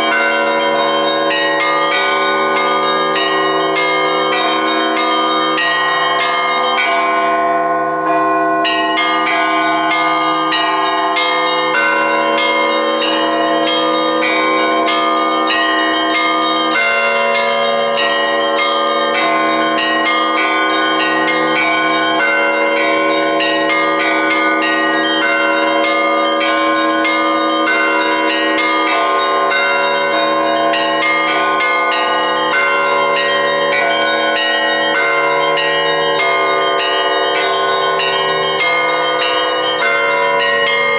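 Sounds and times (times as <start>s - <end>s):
large bells ringing: 0.0s - 40.9s.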